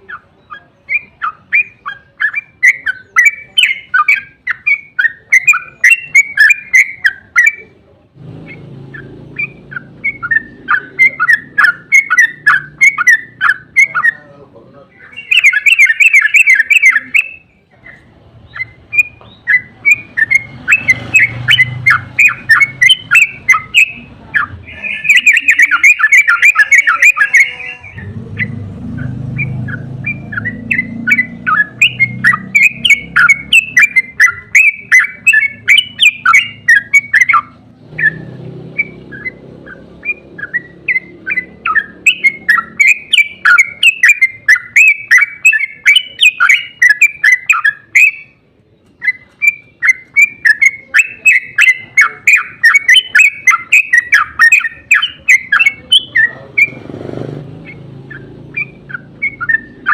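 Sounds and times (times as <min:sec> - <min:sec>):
bird singing chattering trills: 0:00.0 - 0:59.9.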